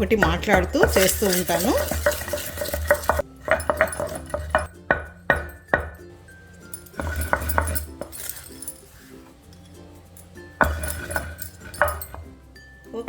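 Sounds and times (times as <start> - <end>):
pounding in stone mortar: 0.0 - 9.3, 10.2 - 12.4
soft background music: 0.0 - 13.0.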